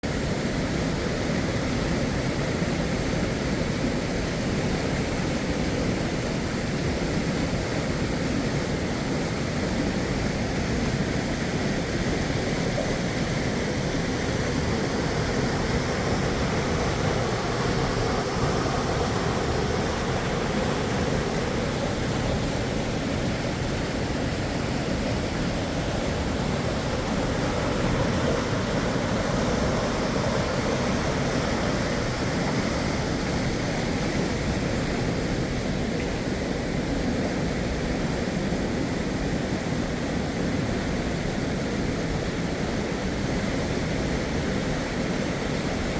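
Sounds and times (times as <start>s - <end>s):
river water rushing over rocks: 0.0s - 45.9s.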